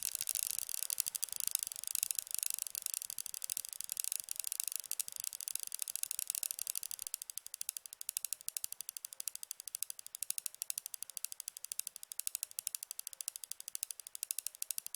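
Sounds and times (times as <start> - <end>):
rapid mechanical ticking: 0.0 - 14.9.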